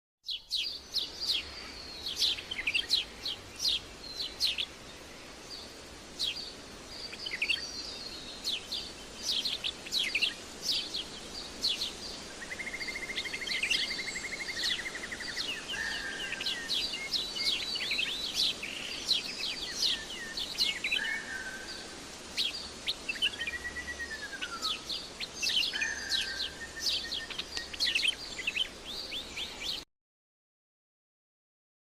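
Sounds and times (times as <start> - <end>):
birds chirping: 0.3 - 29.9.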